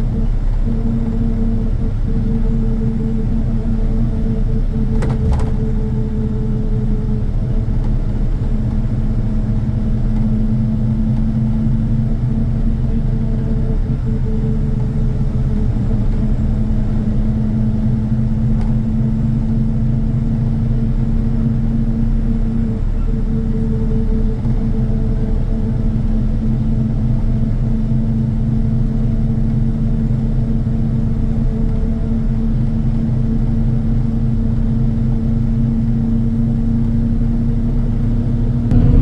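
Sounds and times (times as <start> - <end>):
heavy engine humming: 0.0 - 39.0.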